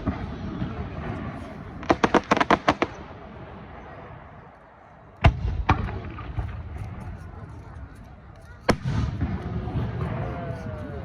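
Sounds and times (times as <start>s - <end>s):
fireworks bursting: 0.0s - 4.5s, 5.1s - 11.0s.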